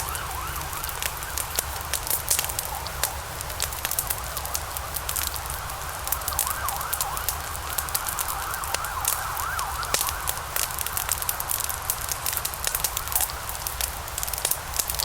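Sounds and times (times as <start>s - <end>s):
logs crackling and popping: 0.0s - 15.0s
low rumble of flame: 0.0s - 15.0s.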